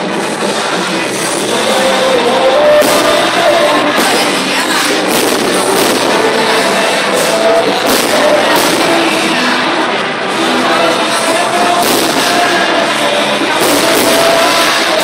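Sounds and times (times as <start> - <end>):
crowd noise: 0.0 - 15.0
fireworks popping and cracking: 0.0 - 15.0
loud music: 0.0 - 15.0.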